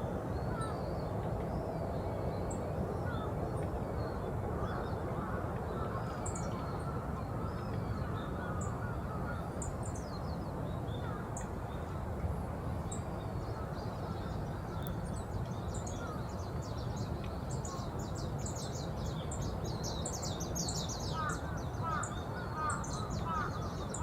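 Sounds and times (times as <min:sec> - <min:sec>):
low city rumble: 0:00.0 - 0:24.0.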